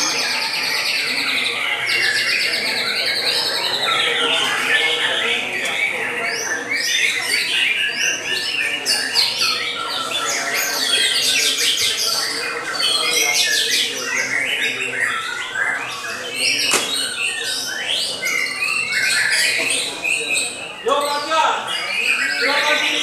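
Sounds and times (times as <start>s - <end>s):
birds whistling and chattering: 0.0s - 23.0s.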